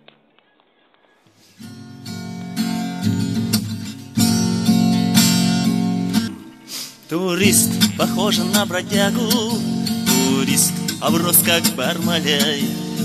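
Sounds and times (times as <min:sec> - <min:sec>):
acoustic guitar strumming: 0:01.4 - 0:13.0.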